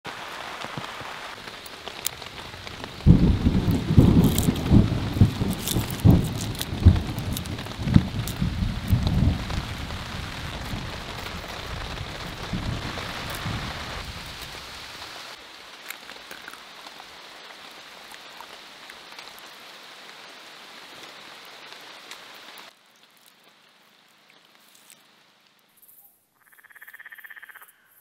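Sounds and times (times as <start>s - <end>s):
rain falling: 0.1s - 25.7s
raindrop ticks: 0.5s - 25.6s.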